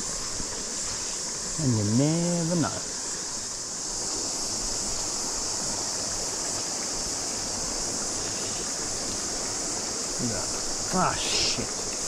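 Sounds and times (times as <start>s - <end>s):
cicadas chorus: 0.0s - 12.0s
river flowing: 0.0s - 12.0s.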